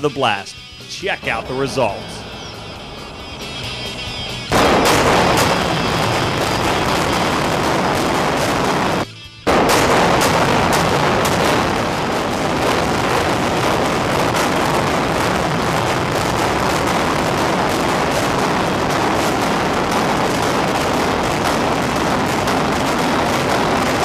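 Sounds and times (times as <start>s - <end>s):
sharp cracks of demolition charges: 1.0s - 24.0s.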